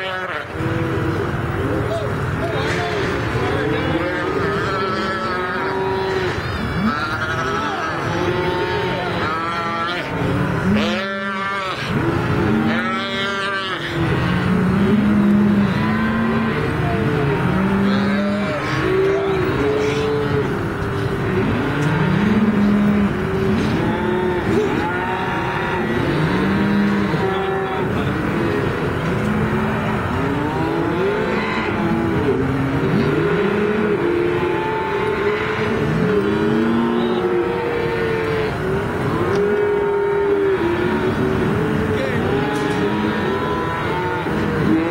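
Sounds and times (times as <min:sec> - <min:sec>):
cows and calves bawling: 0:00.0 - 0:44.9.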